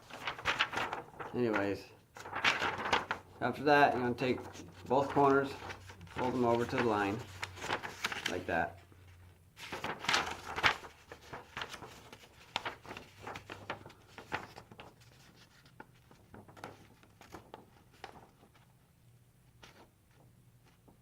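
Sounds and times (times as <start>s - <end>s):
paper rustling and crinkling: 0.0s - 18.8s, 19.5s - 21.0s.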